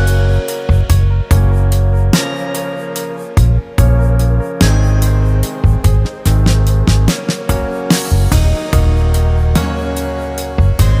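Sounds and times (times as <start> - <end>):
instrumental chords over heavy bass: 0.0 - 11.0.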